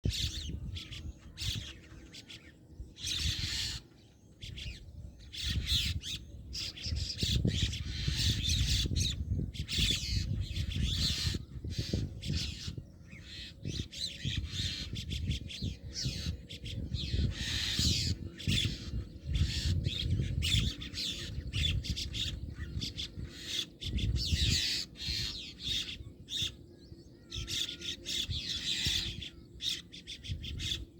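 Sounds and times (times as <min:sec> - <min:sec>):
birds chorus: 0:00.0 - 0:30.9.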